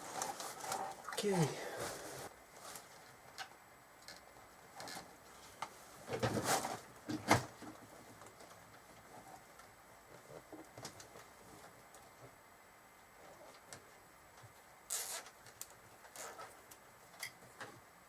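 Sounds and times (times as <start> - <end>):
cables and parts rustling: 0.0 - 12.4, 13.0 - 17.9.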